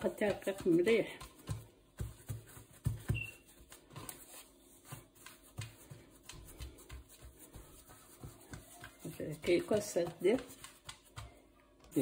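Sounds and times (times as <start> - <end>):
hands patting dough on wood: 0.0 - 12.0
light rubbing of dough: 0.0 - 12.0.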